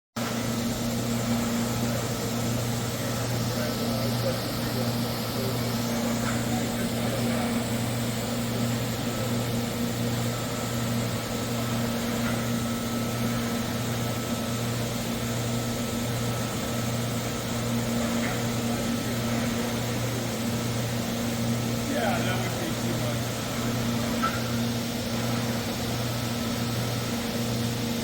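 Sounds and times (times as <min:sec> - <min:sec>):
machine hum: 0:00.2 - 0:28.0.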